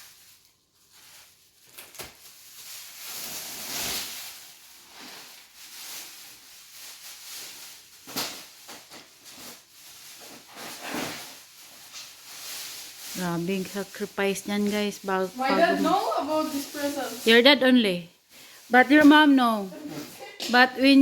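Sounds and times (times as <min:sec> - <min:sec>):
plastic bags rustling and tearing: 0:00.0 - 0:21.0.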